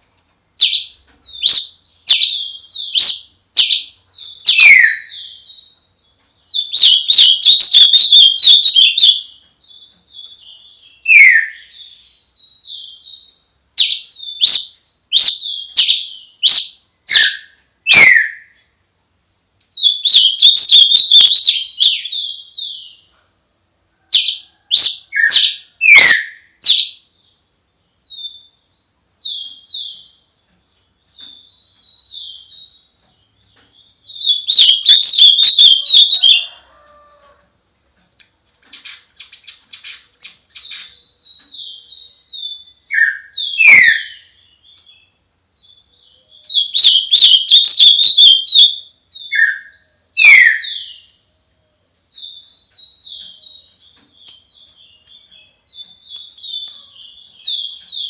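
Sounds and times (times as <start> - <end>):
bird chirps and trills: 0.6 - 18.6, 19.8 - 23.1, 28.0 - 58.0.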